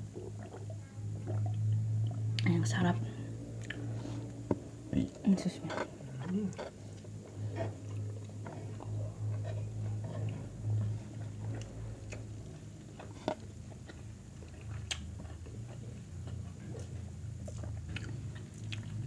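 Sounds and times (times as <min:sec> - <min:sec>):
steady low hum: 0:00.0 - 0:19.0
chewing and biting food: 0:03.5 - 0:19.0.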